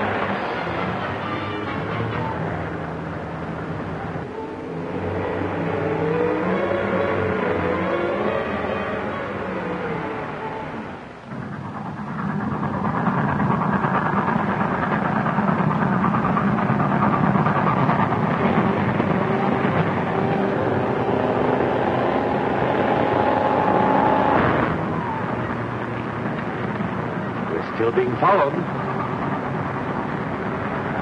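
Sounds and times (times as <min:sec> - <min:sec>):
steam locomotive running: 0:00.0 - 0:31.0.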